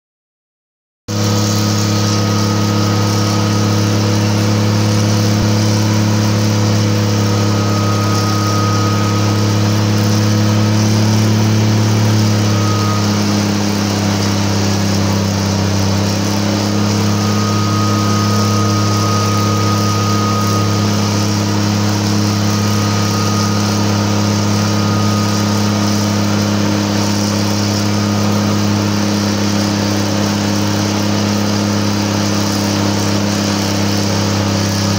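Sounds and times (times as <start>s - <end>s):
diesel engine running hard: 1.1s - 34.9s.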